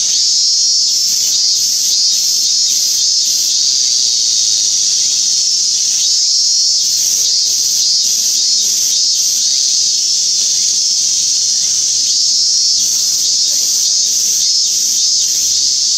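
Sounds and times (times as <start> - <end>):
cicada buzzing: 0.0 - 15.9.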